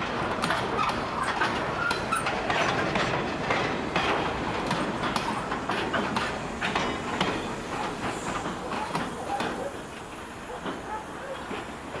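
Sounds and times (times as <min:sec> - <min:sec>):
train wheels clickety-clacking: 0:00.0 - 0:12.0.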